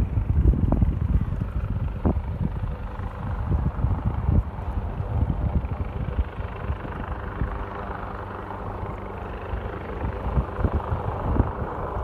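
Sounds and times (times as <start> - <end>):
steady rush of breeze: 0.0 - 12.0
wind buffeting microphone: 0.0 - 12.0.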